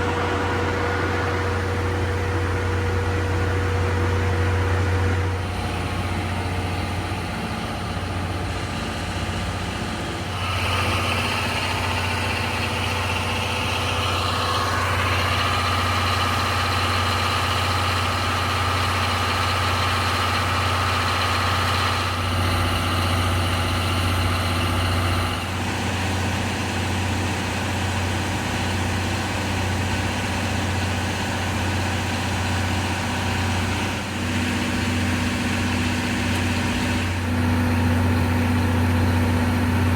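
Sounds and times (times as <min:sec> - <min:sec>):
heavy engine idling: 0:00.0 - 0:39.9
high busy mechanical sound: 0:00.0 - 0:39.9.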